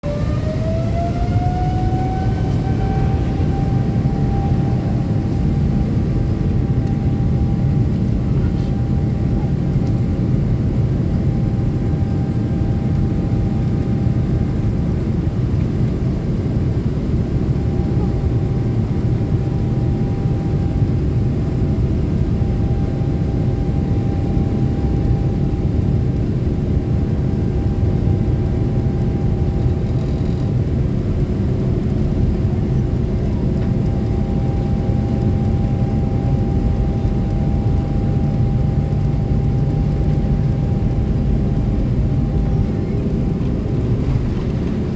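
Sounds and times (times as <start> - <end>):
jet engine rumble in cabin: 0.0 - 44.9
faint steady whine: 1.3 - 44.9.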